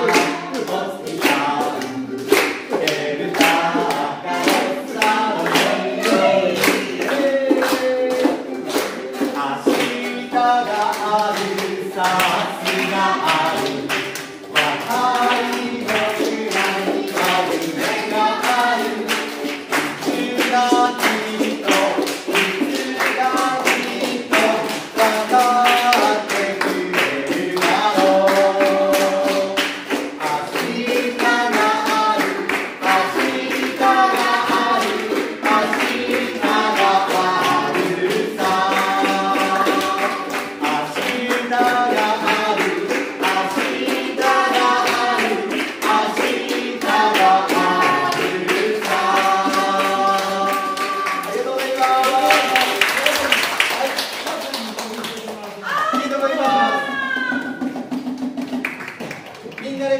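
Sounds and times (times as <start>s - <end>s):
musical accompaniment: 0.0s - 52.9s
people singing together: 0.0s - 54.1s, 55.6s - 59.9s
hands clapping along: 0.0s - 59.9s.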